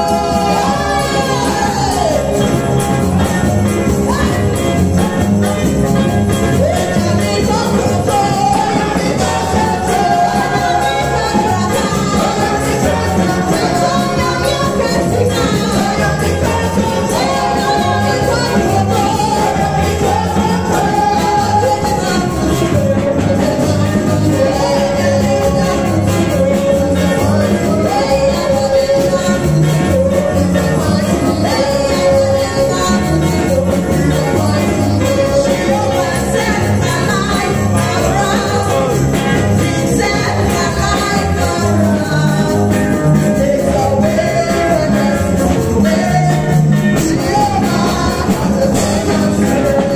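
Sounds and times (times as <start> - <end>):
woman singing into microphone: 0.0 - 5.0, 5.9 - 49.9
backing music with bass and beat: 0.0 - 49.9.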